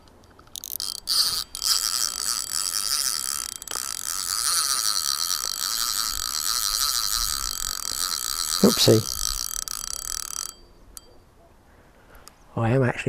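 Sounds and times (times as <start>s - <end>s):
fishing reel clicks: 0.0s - 11.2s
fishing reel ratcheting whirr: 0.5s - 11.2s.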